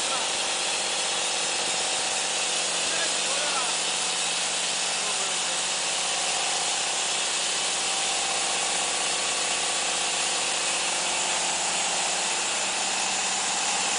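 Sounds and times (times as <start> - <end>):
band saw blade hissing in wood: 0.0 - 13.9.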